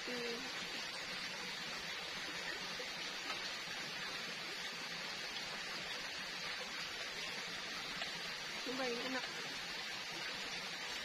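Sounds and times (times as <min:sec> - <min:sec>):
forest background hiss: 0:00.0 - 0:11.0.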